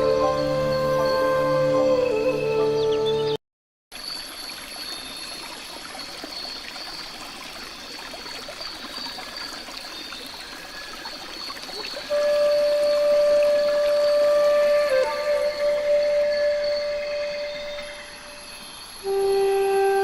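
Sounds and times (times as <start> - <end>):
trickling stream: 0.0 - 20.0.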